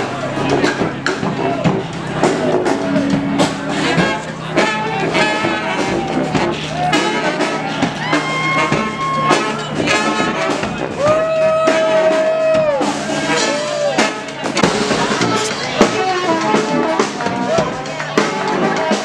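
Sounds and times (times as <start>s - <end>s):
drum hits: 0.0s - 19.0s
horns playing a melody: 0.0s - 19.0s.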